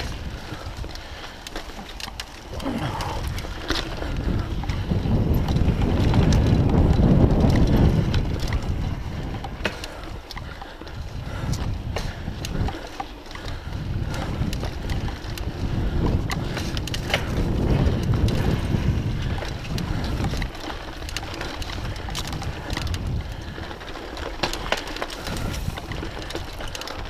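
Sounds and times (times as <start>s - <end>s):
bike clicks and rattles: 0.0s - 27.0s
bike tyres rumbling on dirt: 0.0s - 27.0s
wind buffeting microphone: 0.0s - 27.0s.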